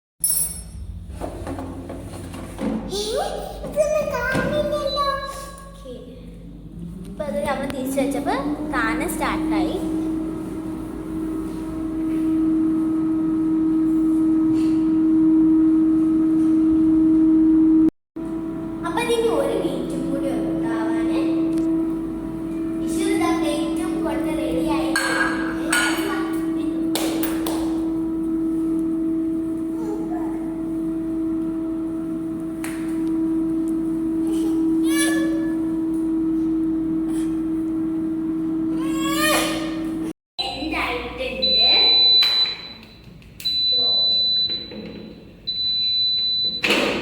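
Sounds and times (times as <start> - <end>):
air fryer fan humming: 1.0 - 42.8, 45.5 - 47.0.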